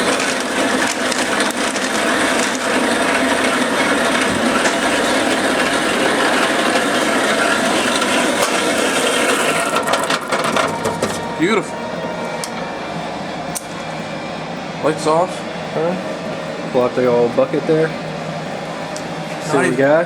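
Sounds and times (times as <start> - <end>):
grain mill crushing malt: 0.0 - 17.7.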